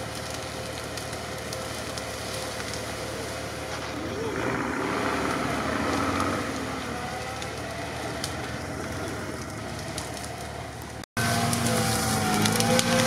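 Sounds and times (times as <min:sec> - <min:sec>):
car engine running: 0:00.0 - 0:13.0
twigs crackling: 0:00.0 - 0:13.0.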